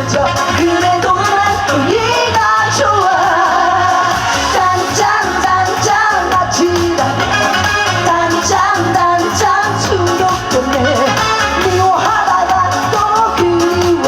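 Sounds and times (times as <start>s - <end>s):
upbeat song with bass beat: 0.0s - 14.0s
woman singing: 0.0s - 14.0s.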